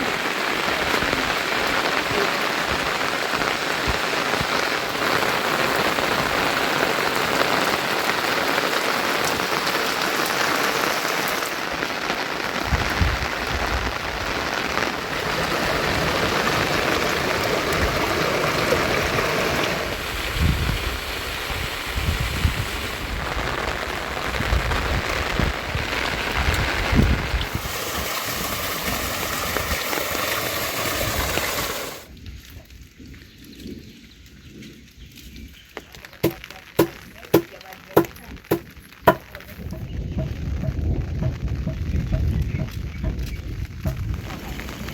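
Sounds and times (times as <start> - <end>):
heavy rain pouring: 0.0 - 32.2, 36.0 - 44.9.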